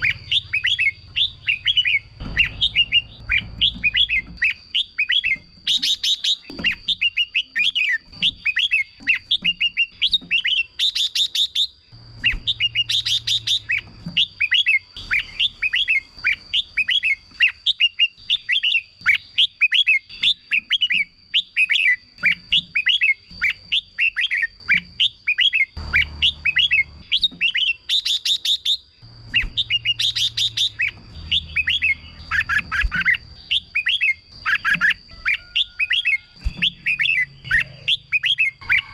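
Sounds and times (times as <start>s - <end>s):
birds singing whistled chirps: 0.0s - 38.9s.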